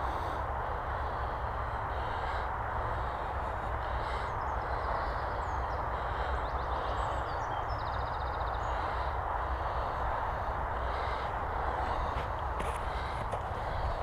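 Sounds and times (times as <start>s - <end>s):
small birds chirping: 0.0s - 14.0s
steady rushing noise: 0.0s - 14.0s.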